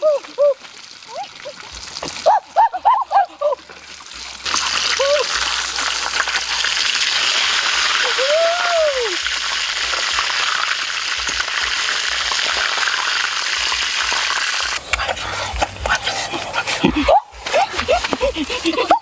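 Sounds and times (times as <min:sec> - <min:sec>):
meat sizzling in oil: 0:00.0 - 0:02.6, 0:03.6 - 0:16.4.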